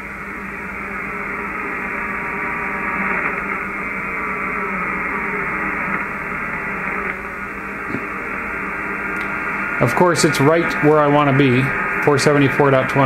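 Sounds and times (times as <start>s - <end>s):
faint sliding tones: 0.0s - 13.0s
radio interference buzz and hiss: 0.0s - 13.0s.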